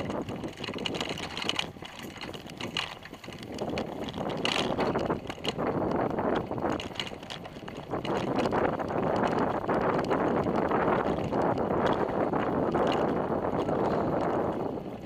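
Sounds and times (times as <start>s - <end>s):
bicycle tyre rumble: 0.0s - 15.0s
bike rattling: 0.0s - 15.0s.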